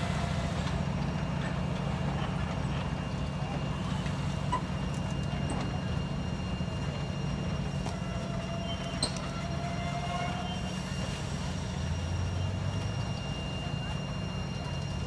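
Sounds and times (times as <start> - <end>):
train wheels rumbling on rail: 0.0 - 15.0
faint wheel squeal: 2.6 - 15.0.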